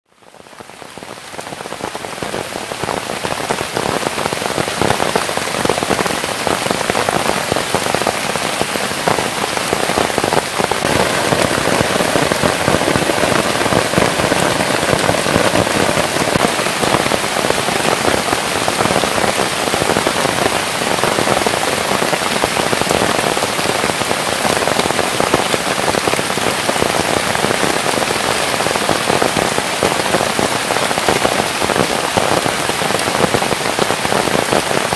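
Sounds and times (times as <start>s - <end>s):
rain pattering: 0.1s - 34.9s.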